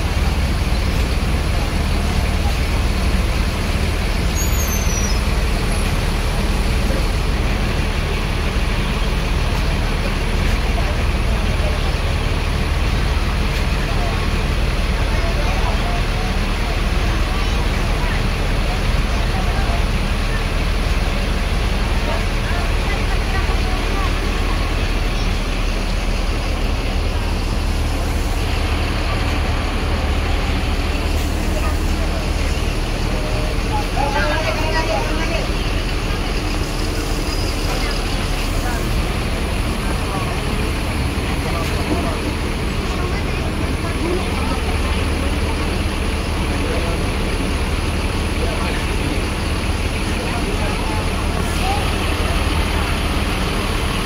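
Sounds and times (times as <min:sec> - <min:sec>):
bus diesel engine running: 0:00.0 - 0:54.0
road and terminal noise: 0:00.0 - 0:54.0.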